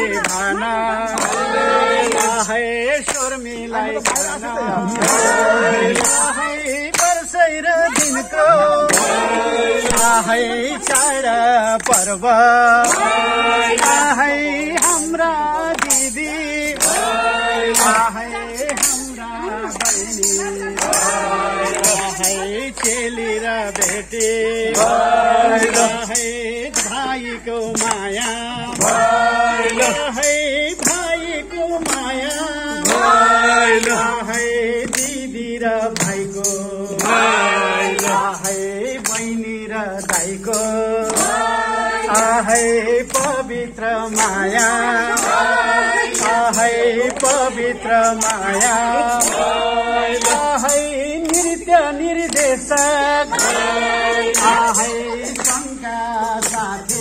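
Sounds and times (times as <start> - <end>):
man singing: 0.0 - 45.6, 46.2 - 57.0
group singing festive song: 0.0 - 57.0
percussion beat: 0.0 - 57.0.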